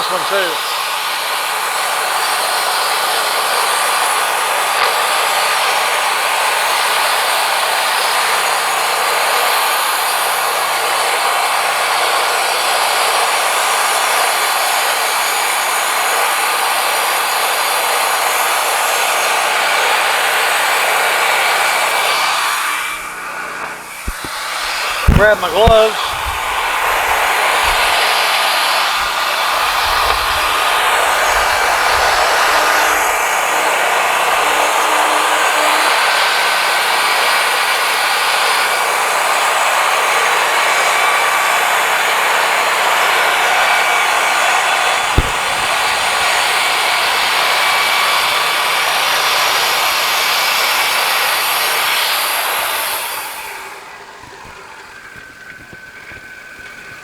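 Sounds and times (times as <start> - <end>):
band saw cutting log: 0.0 - 54.1
sawmill engine running: 0.0 - 56.6.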